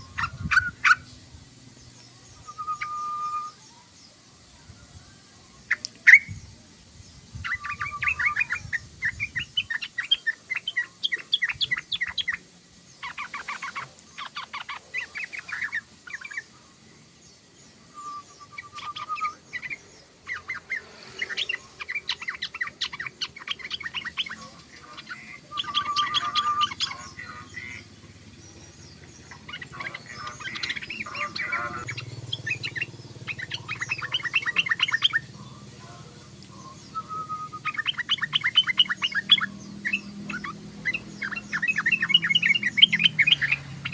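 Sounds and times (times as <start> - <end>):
bird chattering song: 0.0 - 4.2, 5.5 - 43.9.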